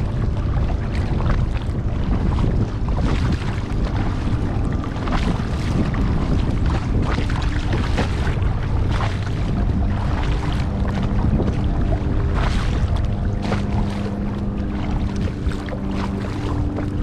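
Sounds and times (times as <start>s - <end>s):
kayak paddle splashing: 0.0s - 17.0s
water lapping at hull: 0.0s - 17.0s
wind rumble on microphone: 0.0s - 17.0s.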